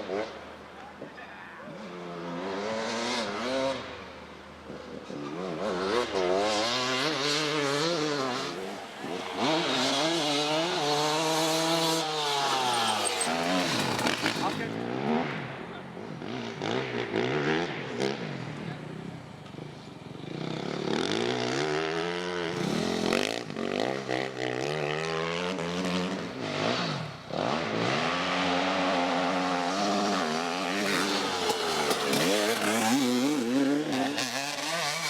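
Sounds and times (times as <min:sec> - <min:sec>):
motorcycle engine revving: 0:01.7 - 0:35.0.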